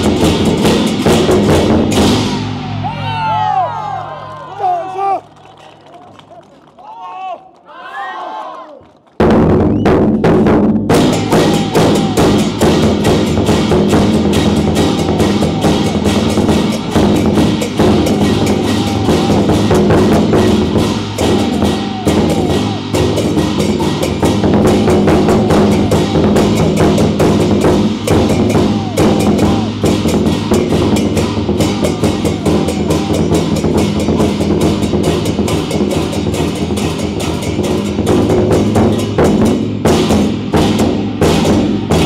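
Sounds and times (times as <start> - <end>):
big drum: 0.0 - 4.0, 9.2 - 42.0
cymbals crashing: 0.0 - 4.3, 10.9 - 42.0
gong and drum band playing: 0.0 - 4.8, 9.2 - 42.0.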